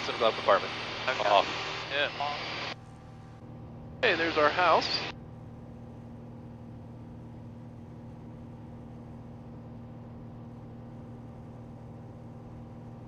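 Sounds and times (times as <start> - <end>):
propeller plane cabin drone: 0.0 - 13.0.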